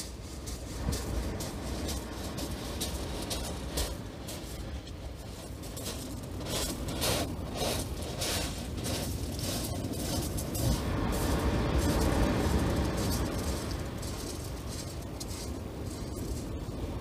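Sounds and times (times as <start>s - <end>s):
footsteps crunching shingle: 0.0s - 16.9s
surf on shingle beach: 0.0s - 17.0s.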